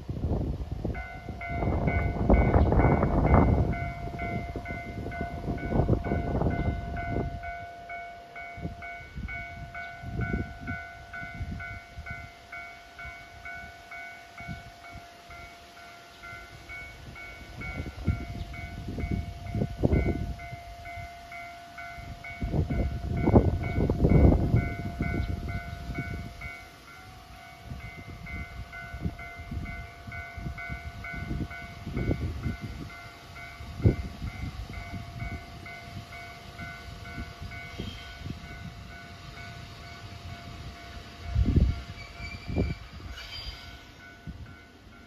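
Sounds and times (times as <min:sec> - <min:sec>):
low irregular train rumbling: 0:00.0 - 0:45.0
level crossing warning bell: 0:00.9 - 0:45.0.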